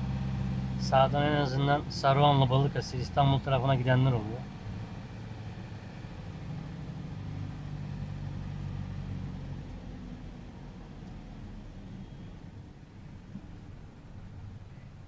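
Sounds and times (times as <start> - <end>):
truck diesel engine low revs: 0.0 - 14.7.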